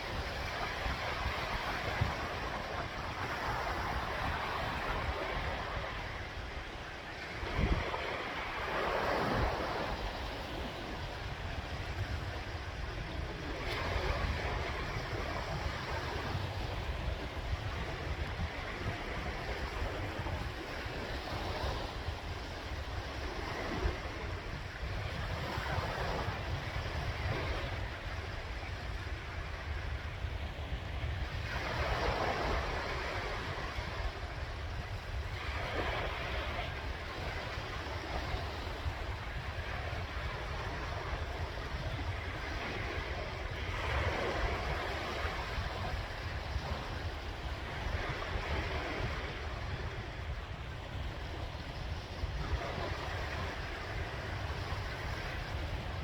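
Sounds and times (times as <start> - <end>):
sea waves breaking: 0.0 - 56.0
wind rumble on microphone: 0.0 - 56.0.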